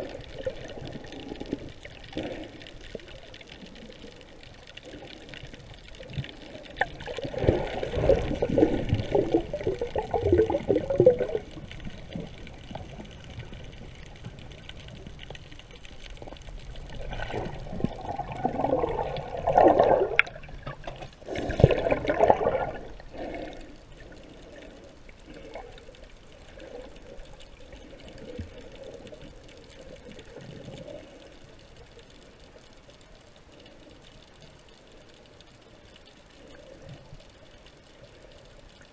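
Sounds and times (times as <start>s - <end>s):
underwater water sloshing: 0.0s - 38.9s.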